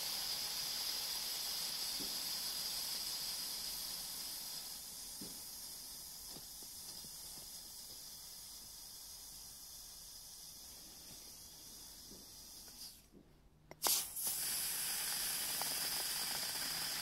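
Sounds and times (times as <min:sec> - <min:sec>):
ice hissing to steam: 0:00.0 - 0:13.1, 0:13.7 - 0:17.0.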